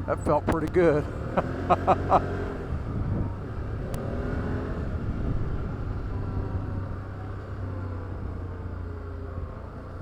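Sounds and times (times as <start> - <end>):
atv engine droning: 0.0 - 10.0.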